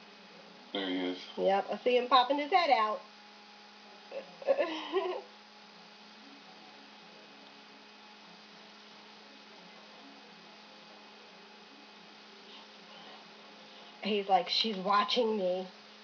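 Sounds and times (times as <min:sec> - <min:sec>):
faint hiss: 0:00.0 - 0:16.0
low electrical hum: 0:00.0 - 0:16.0.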